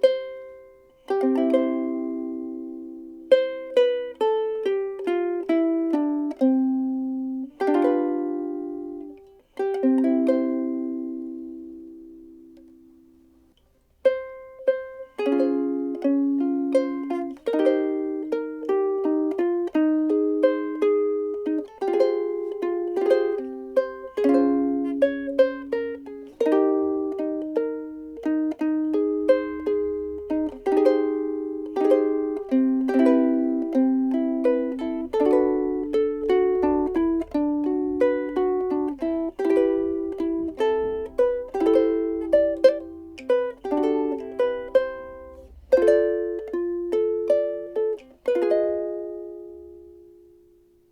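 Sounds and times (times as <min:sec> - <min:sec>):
ukulele plucked melody: 0:00.0 - 0:50.9.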